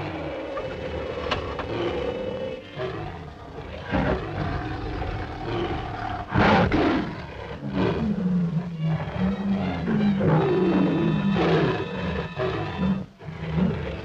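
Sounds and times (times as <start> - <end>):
lions roaring: 0.0 - 14.0.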